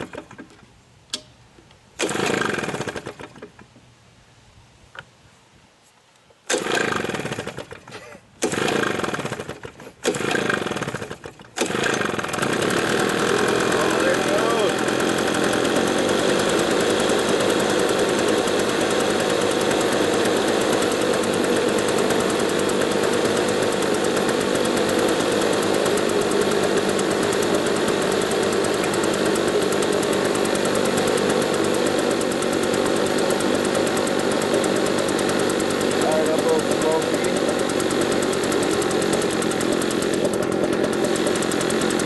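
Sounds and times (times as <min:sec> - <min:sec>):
leaf blower engine running: 0:00.0 - 0:00.6, 0:02.0 - 0:03.6, 0:06.5 - 0:42.0.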